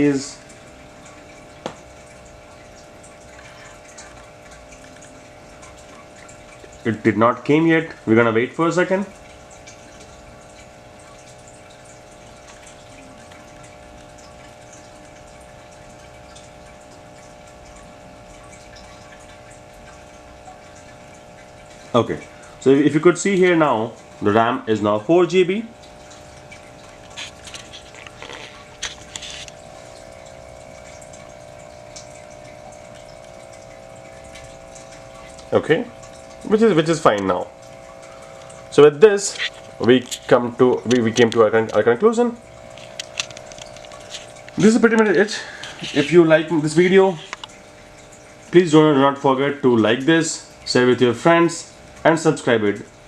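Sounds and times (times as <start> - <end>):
machine hum: 0.0 - 53.0.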